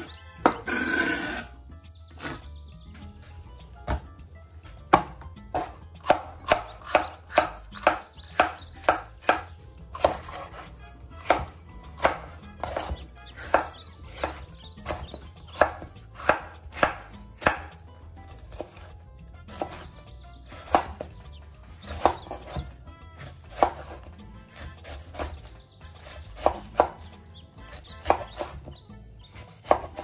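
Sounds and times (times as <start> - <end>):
knife chopping on cutting board: 3.8 - 4.1, 4.7 - 30.0.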